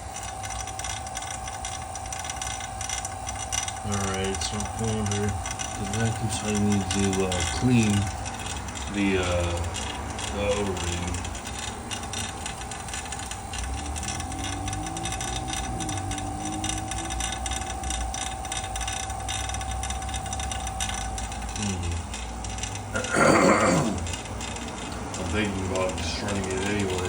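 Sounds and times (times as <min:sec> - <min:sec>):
low hum: 0:00.0 - 0:27.0
machine whine: 0:00.0 - 0:27.0.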